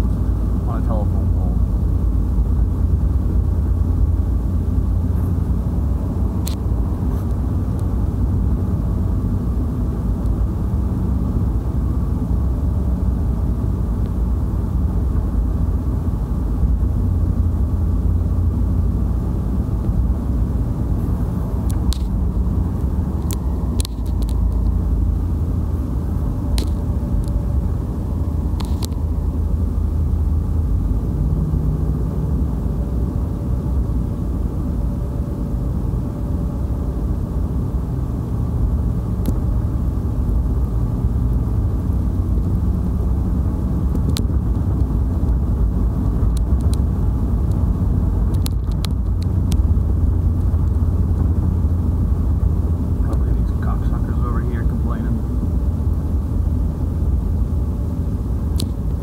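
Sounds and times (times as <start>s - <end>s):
road and engine rumble in car: 0.0s - 59.0s.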